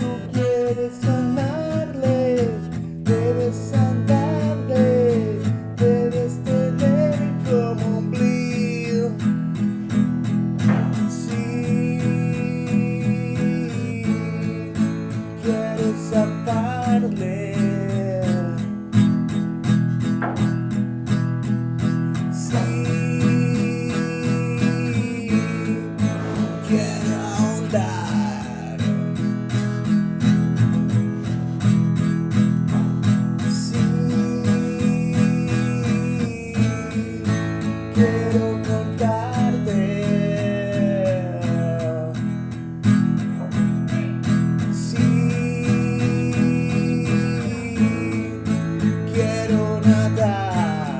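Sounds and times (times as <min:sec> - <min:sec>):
strummed guitar: 0:00.0 - 0:50.9.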